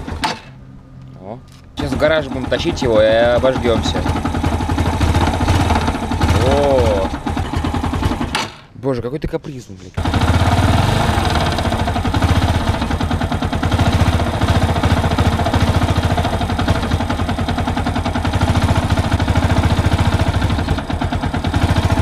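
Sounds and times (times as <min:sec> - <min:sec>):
motorcycle engine idling: 0:01.8 - 0:08.4, 0:10.0 - 0:22.0.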